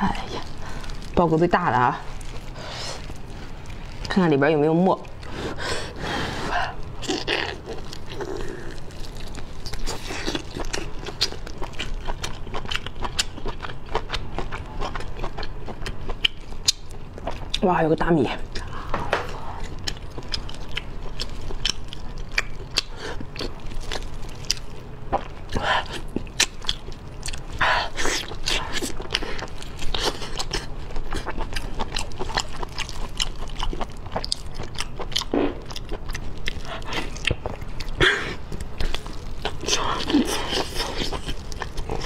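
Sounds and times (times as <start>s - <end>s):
wet chewing and mouth clicks: 6.7s - 17.6s, 18.5s - 42.0s.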